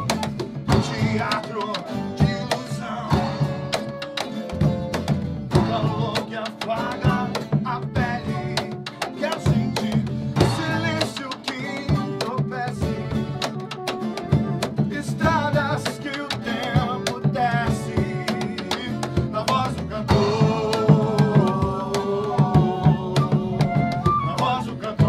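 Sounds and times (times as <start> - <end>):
flute melody: 0.0 - 9.9, 10.5 - 19.0, 20.2 - 25.0
hand percussion: 0.0 - 25.0
strummed acoustic guitar: 0.0 - 25.0.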